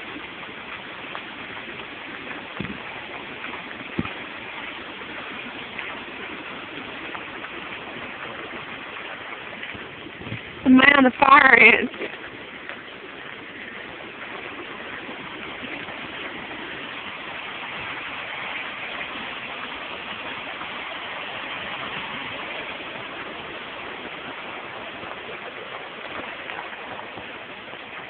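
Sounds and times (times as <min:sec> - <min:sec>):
hiss of rushing water: 0:00.0 - 0:28.0.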